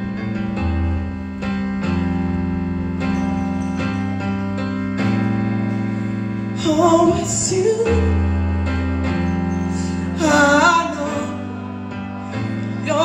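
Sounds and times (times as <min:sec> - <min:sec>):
electronic keyboard chords: 0:00.0 - 0:13.0.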